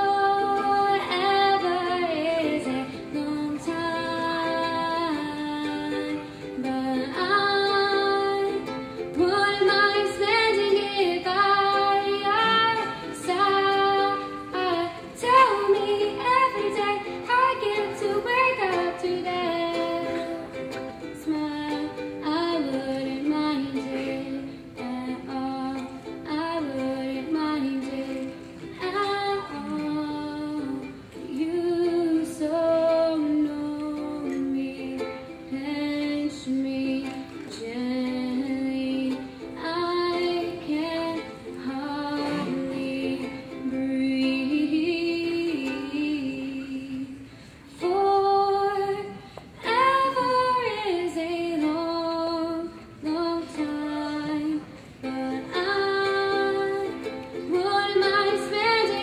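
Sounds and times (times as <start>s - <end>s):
girl singing: 0.0s - 59.0s
ukulele strumming: 0.0s - 59.0s.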